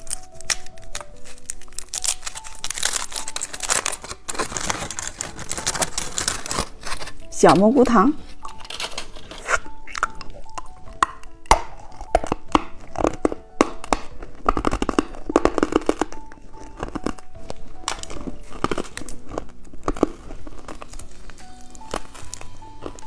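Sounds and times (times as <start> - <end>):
candy wrapper crinkling and tearing: 0.0 - 23.0
light background music: 0.0 - 23.0.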